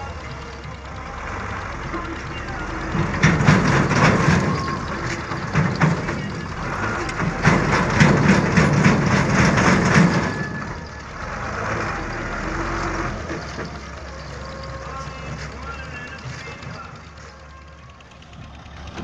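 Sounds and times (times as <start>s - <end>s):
crackling and clattering: 0.0s - 19.0s
truck engine running hard: 0.0s - 19.0s.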